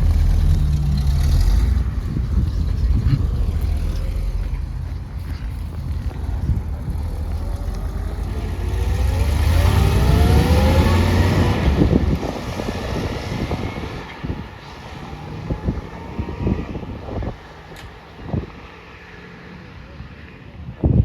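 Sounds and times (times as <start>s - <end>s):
car engine accelerating: 0.0s - 20.3s.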